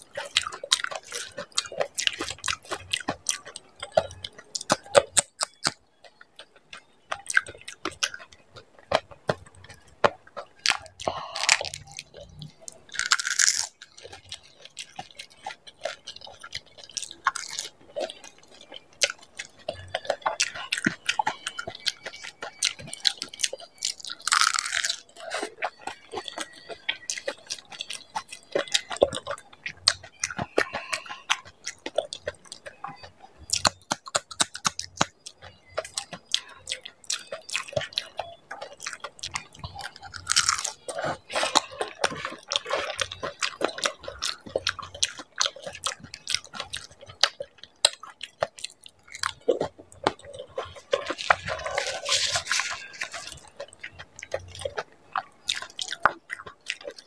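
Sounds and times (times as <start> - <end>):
wet crunchy chewing: 0.0 - 57.0.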